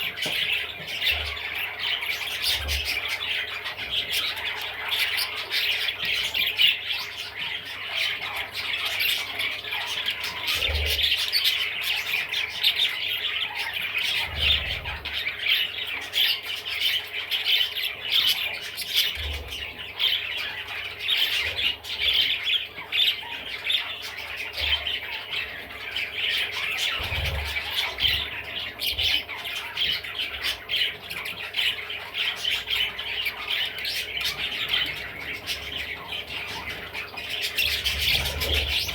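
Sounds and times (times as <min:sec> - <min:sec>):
budgerigar chattering and warbling: 0:00.0 - 0:38.9.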